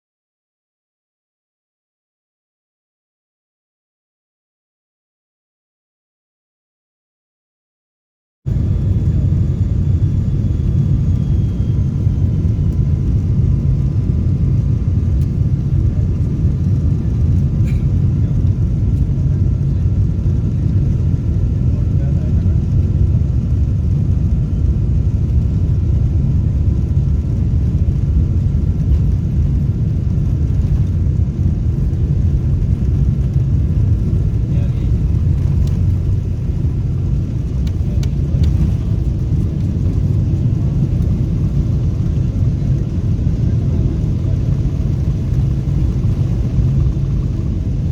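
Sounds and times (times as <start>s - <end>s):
jet engine rumble in cabin: 8.5s - 47.9s.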